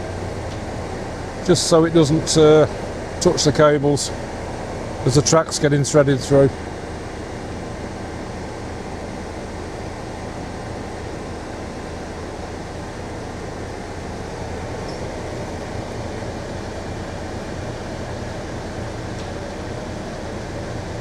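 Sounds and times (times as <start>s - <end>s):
diesel crane engine running: 0.0s - 21.0s.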